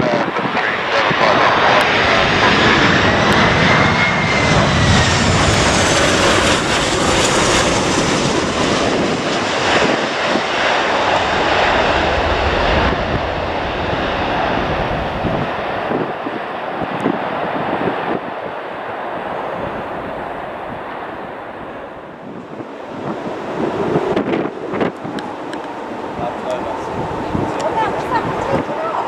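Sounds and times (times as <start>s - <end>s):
jet engine whine: 0.0s - 29.0s
jet engines roaring: 0.0s - 29.0s.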